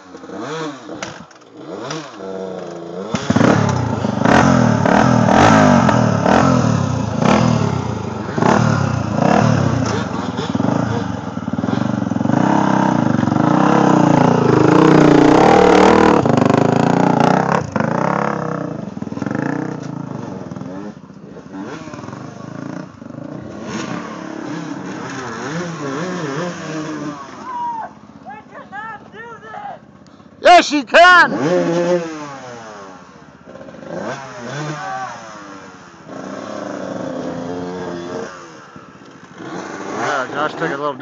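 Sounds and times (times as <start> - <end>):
dirt bike engine revving: 0.0 - 29.1, 29.8 - 41.0.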